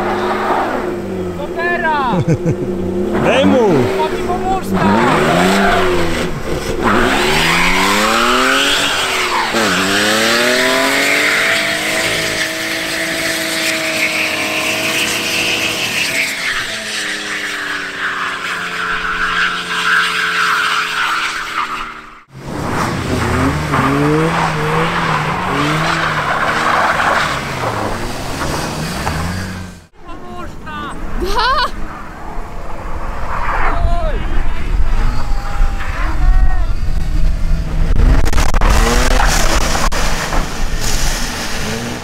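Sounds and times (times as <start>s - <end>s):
car engine revving: 0.0s - 30.0s, 31.8s - 42.0s.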